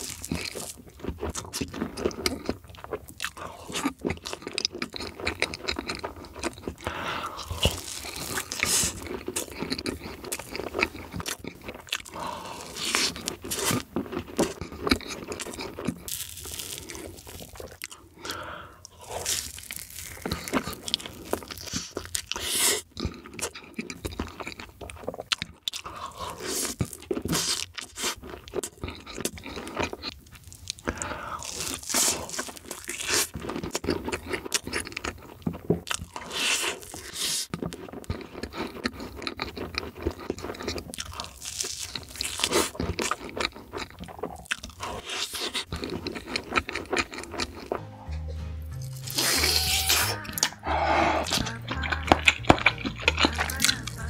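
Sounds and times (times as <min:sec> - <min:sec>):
chewing soft cake: 0:00.0 - 0:47.8, 0:49.0 - 0:54.0.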